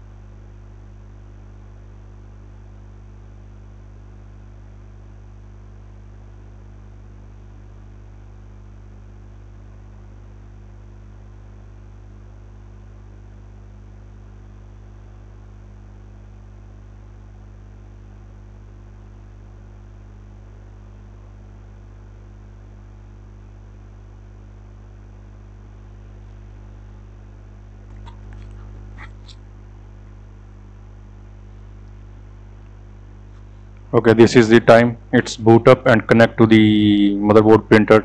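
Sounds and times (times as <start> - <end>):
low electrical mains hum: 0.0 - 38.0.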